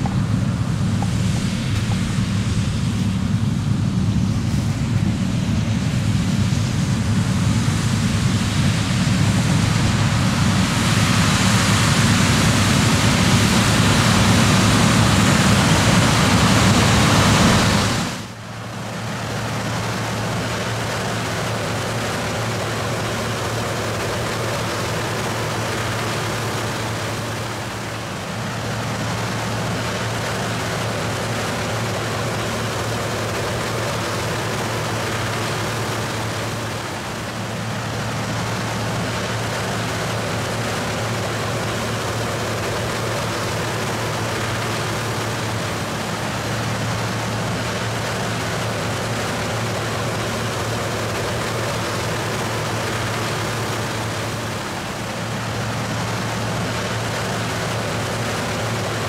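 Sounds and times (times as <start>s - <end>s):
combine and tractor engine noise: 0.0s - 59.0s
constant low hum: 0.0s - 59.0s.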